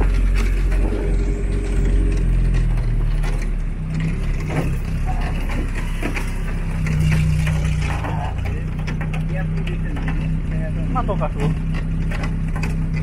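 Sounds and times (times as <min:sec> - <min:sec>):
knocks and rattles: 0:00.0 - 0:13.0
vehicle engine droning: 0:00.0 - 0:13.0.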